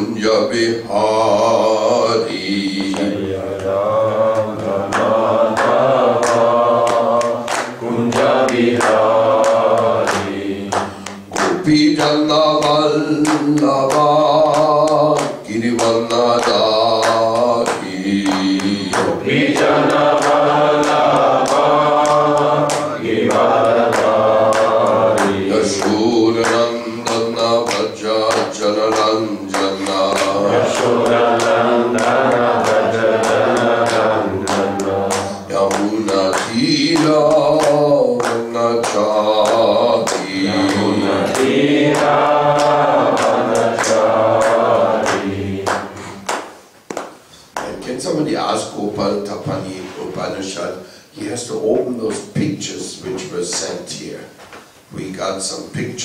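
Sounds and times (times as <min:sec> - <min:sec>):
man chanting into a microphone: 0:00.0 - 0:46.2, 0:47.6 - 0:56.0
percussive beat of sharp strokes: 0:00.0 - 0:48.1.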